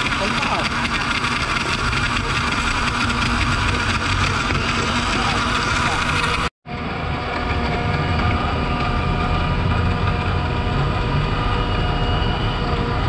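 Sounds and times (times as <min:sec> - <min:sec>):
loud mechanical rumble: 0:00.0 - 0:13.0.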